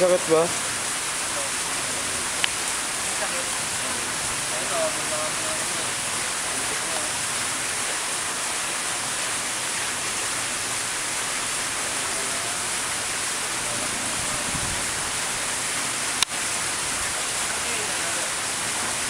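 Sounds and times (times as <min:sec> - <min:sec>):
water splashing into pond: 0:00.0 - 0:19.0.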